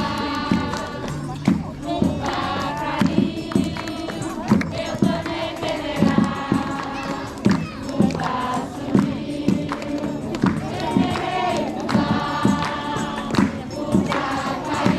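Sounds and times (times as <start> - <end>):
group singing: 0.0 - 14.9.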